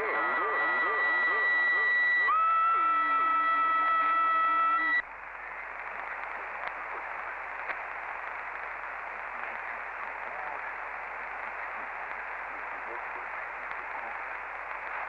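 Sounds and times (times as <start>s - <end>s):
radio static hiss: 0.0s - 15.0s
steady electronic radio tones: 0.0s - 15.0s.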